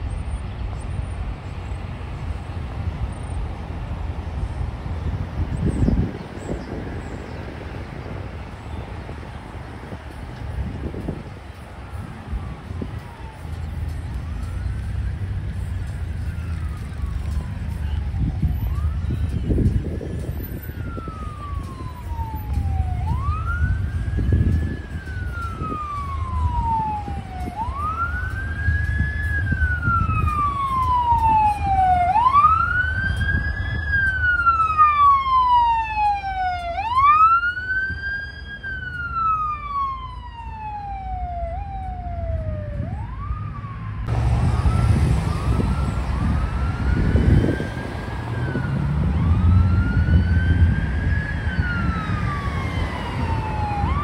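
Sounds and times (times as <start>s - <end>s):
traffic rumbling: 0.0s - 54.0s
emergency siren wailing: 4.0s - 54.0s.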